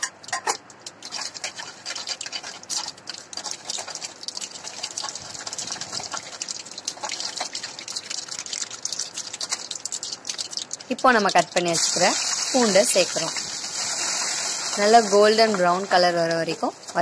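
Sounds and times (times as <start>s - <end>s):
seeds crackling and popping: 0.0s - 17.0s
seeds sizzling in hot oil: 0.0s - 17.0s.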